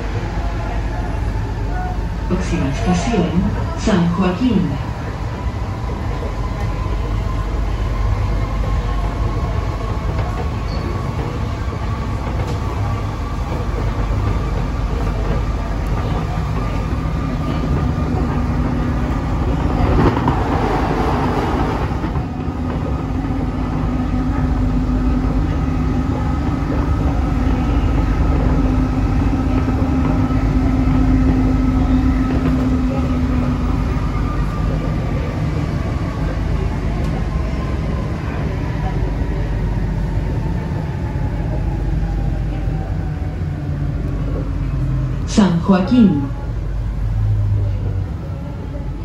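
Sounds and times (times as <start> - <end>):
metro train tyres rumbling: 0.0 - 49.0.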